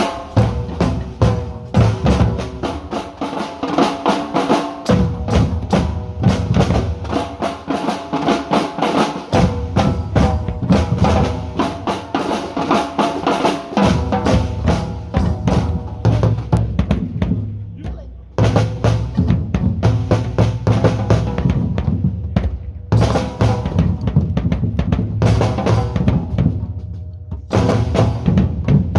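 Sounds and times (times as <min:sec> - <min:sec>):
drums playing fast groove: 0:00.0 - 0:28.9.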